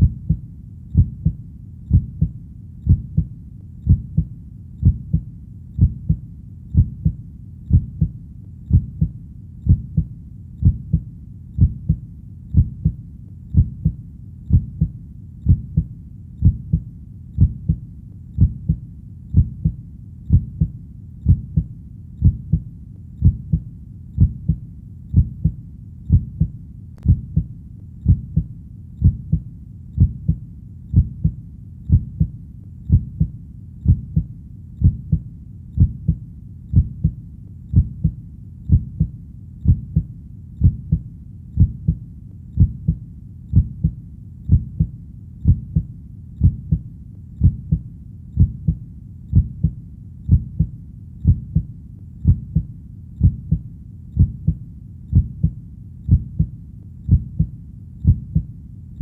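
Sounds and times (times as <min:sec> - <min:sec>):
heartbeat: 0:00.0 - 0:59.0.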